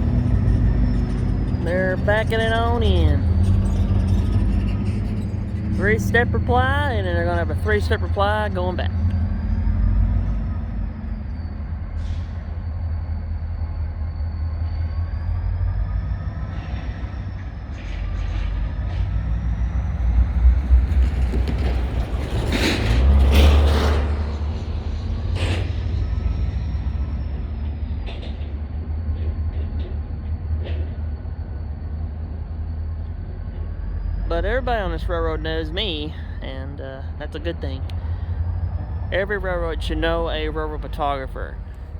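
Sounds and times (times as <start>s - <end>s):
diesel locomotive rumbling: 0.0s - 41.9s.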